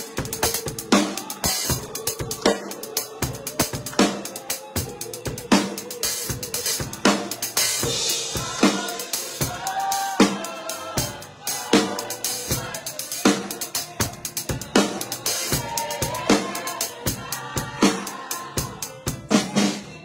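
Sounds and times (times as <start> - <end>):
drum kit groove: 0.0 - 20.0.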